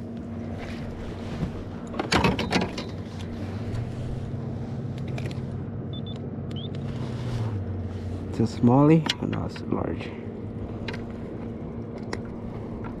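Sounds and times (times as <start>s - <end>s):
trolling motor electric hum: 0.0s - 13.0s.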